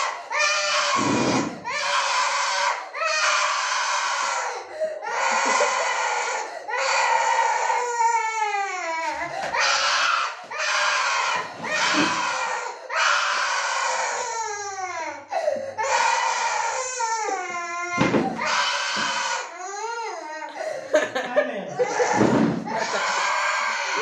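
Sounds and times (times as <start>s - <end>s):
small child crying and screaming: 0.0s - 20.5s, 21.8s - 24.0s.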